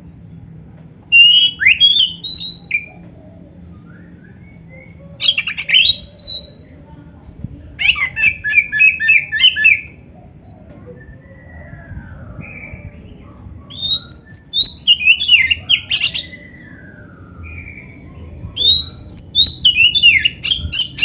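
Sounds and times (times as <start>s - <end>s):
magpie-robin singing: 1.1s - 6.7s, 7.8s - 21.0s.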